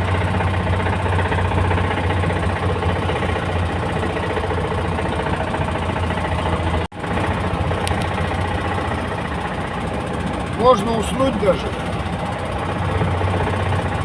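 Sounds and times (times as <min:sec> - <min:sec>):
van engine knocking and rattling: 0:00.0 - 0:14.0.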